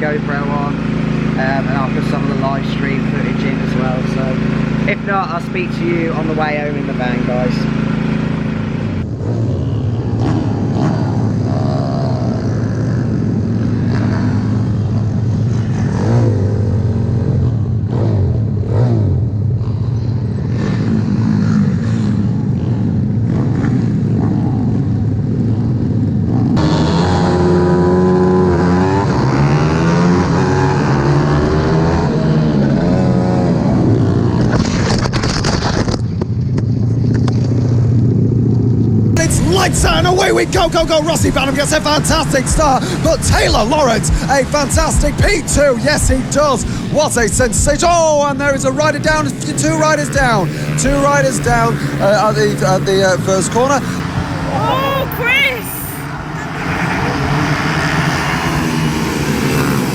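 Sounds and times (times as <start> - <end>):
pit bike engines idling and revving: 0.0 - 59.9.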